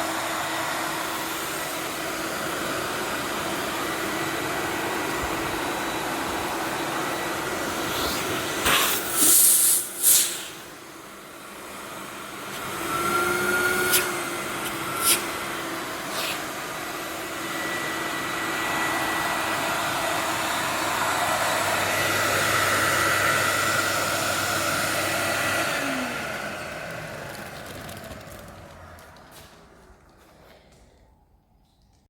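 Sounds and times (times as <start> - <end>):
vacuum cleaner running: 0.0 - 31.2.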